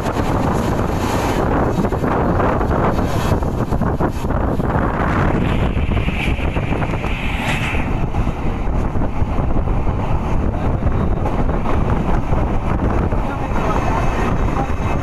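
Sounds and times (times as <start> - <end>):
passenger train running on track: 0.0 - 15.0
wind buffeting microphone: 0.0 - 15.0.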